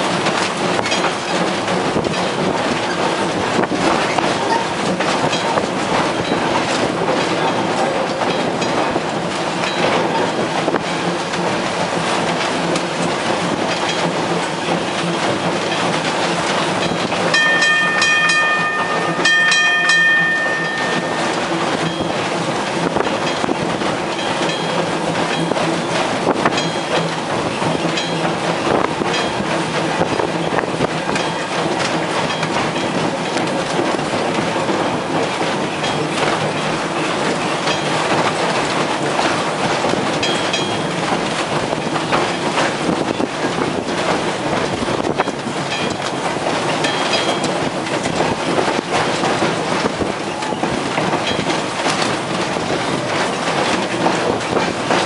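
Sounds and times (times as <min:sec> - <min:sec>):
streetcar rumble and hum: 0:00.0 - 0:55.0
streetcar wheels clicking over joints: 0:00.0 - 0:55.0.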